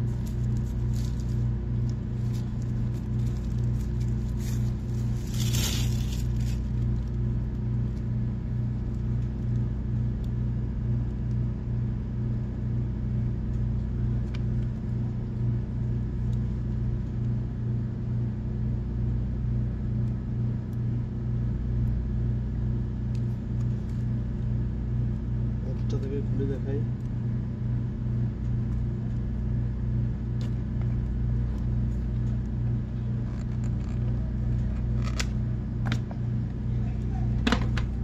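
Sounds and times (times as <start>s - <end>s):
low throbbing machine hum: 0.0s - 38.0s.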